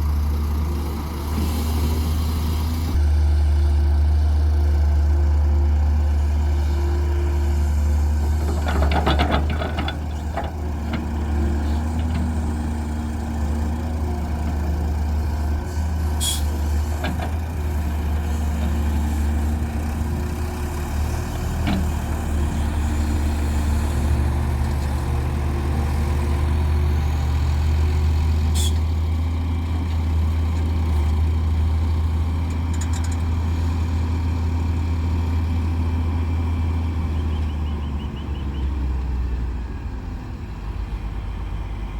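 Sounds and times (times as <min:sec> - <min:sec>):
diesel machinery running: 0:00.0 - 0:41.9.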